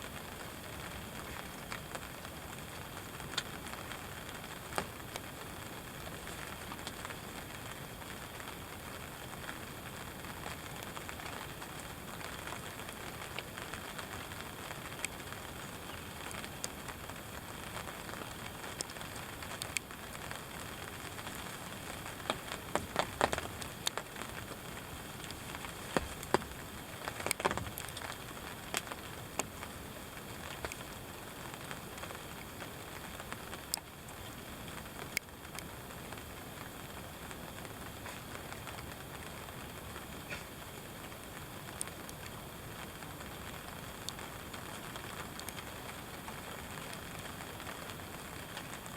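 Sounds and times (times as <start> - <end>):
rain pattering on a blind: 0.0 - 48.9.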